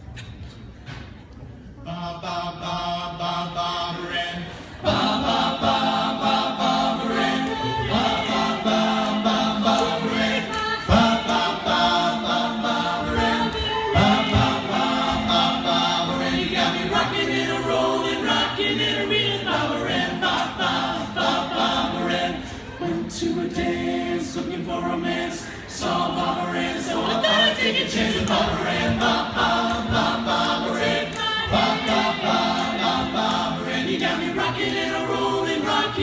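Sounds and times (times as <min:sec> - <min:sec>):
a cappella group singing in harmony: 0:01.8 - 0:36.0.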